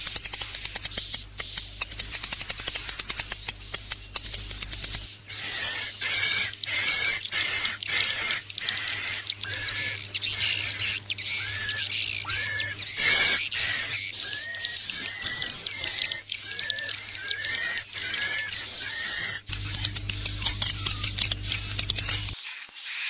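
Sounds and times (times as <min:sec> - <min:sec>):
swiftlet chirps and twitters: 0:00.0 - 0:23.0
swooping bird calls: 0:00.2 - 0:22.4.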